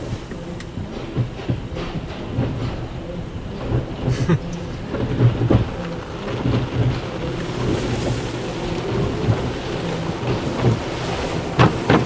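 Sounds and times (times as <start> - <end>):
steady low rumble: 0.0 - 12.0
water spraying on car: 0.0 - 12.0.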